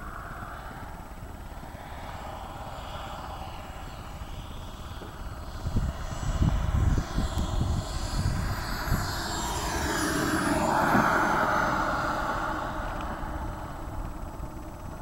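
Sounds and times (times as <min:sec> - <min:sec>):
model jet turbine whine: 0:00.0 - 0:15.0
wind rumble on microphone: 0:00.0 - 0:15.0.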